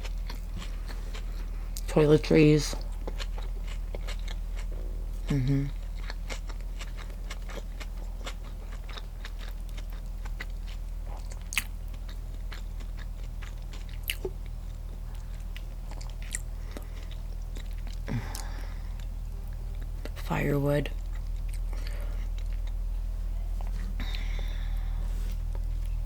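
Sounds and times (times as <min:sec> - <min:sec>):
chewing with wet mouth clicks: 0:00.0 - 0:01.9, 0:02.8 - 0:20.2, 0:20.9 - 0:22.8
steady low hum: 0:00.0 - 0:26.0.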